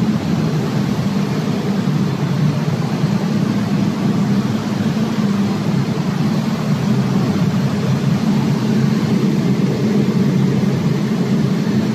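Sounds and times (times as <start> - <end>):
diesel generator droning: 0.0 - 11.9.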